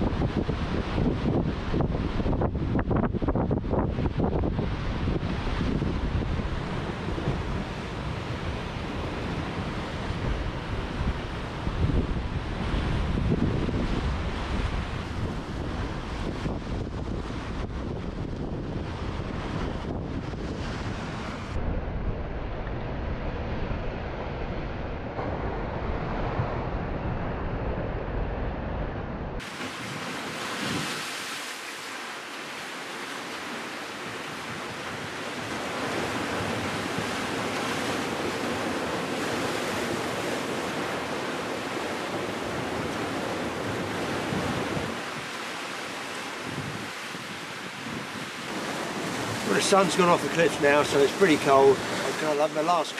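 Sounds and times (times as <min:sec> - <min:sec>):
sea waves on rocky shore: 0:00.0 - 0:21.7, 0:29.4 - 0:52.9
wind rumble on microphone: 0:00.0 - 0:31.5, 0:33.9 - 0:52.2.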